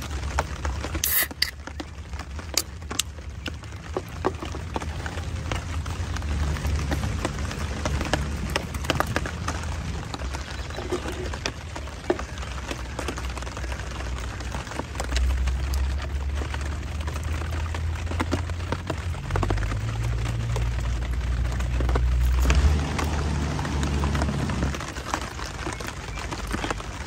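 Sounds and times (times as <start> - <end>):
raindrops tapping on a tent: 0.0 - 27.0.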